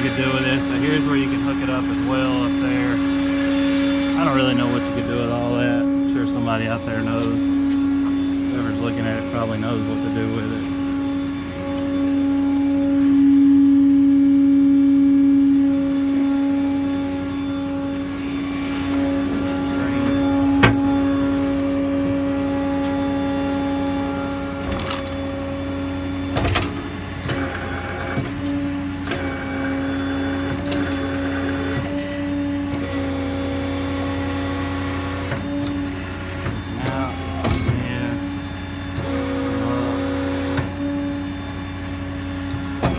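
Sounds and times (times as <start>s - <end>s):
diesel engine with whining pump: 0.0s - 42.9s.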